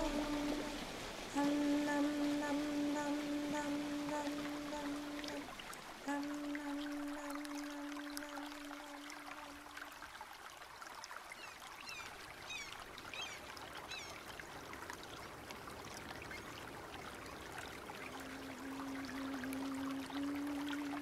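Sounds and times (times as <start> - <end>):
trickling water: 0.0 - 21.0
water drips: 0.0 - 21.0.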